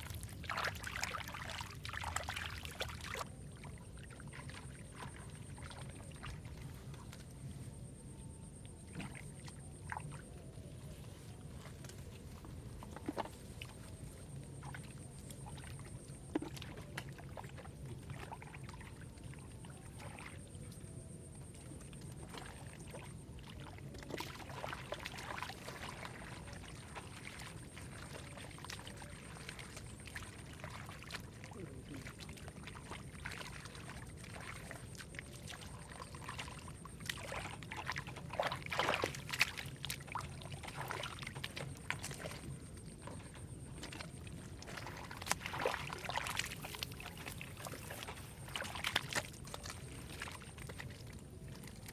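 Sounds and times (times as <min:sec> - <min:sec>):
muddy water sloshing and splashing: 0:00.0 - 0:51.9.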